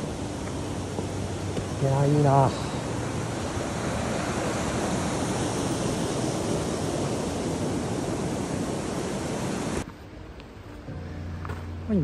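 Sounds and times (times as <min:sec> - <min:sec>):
stream rushing over rocks: 0:00.0 - 0:09.8.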